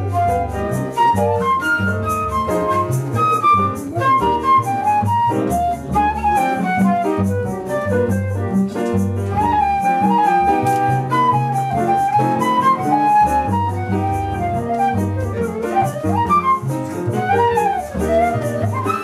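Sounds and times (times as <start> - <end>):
double bass: 0.0 - 19.0
flute melody: 0.0 - 19.0
piano: 0.0 - 19.0.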